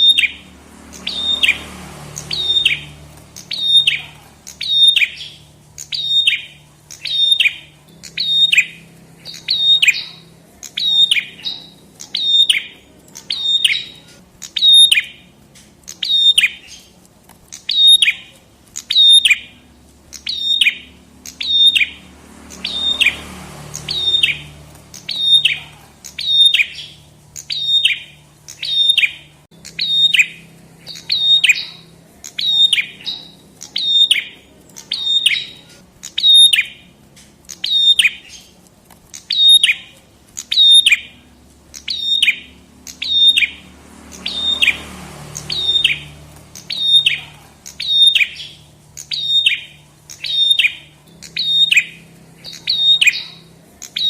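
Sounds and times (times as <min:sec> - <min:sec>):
bird calling: 0:00.0 - 0:54.0.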